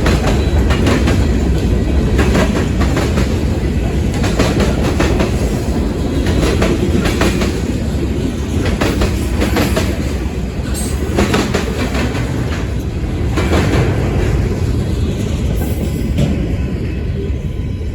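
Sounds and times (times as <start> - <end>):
wheels clacking over rail joints: 0.0 - 16.6
freight train rumble: 0.0 - 17.9.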